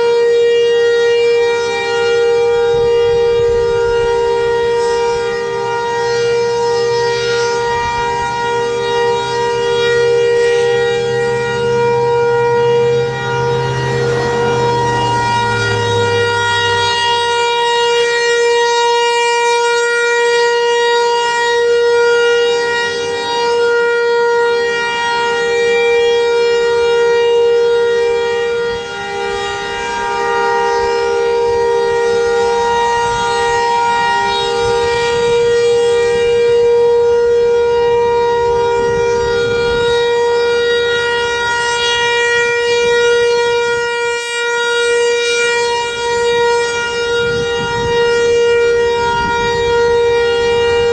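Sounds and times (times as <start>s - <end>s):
warning siren steady tone: 0.0s - 50.9s.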